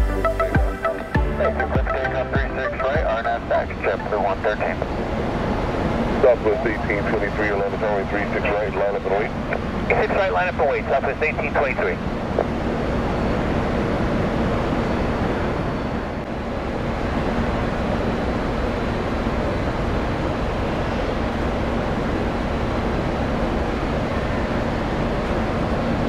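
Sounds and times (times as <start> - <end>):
faint whine: 0.0 - 26.0
jet engines roaring: 0.0 - 26.0.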